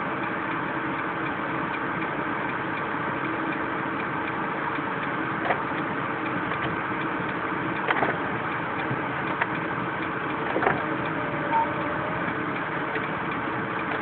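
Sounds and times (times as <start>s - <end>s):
heater fan rushing: 0.0s - 14.0s.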